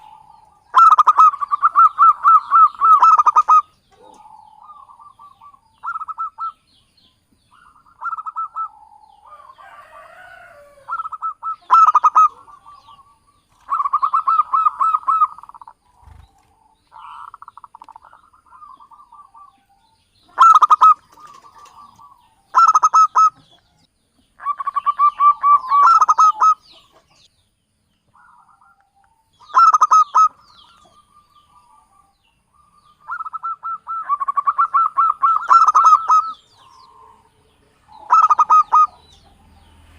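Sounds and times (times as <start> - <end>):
doves cooing: 0.0 - 6.7, 7.5 - 27.3, 28.1 - 39.9.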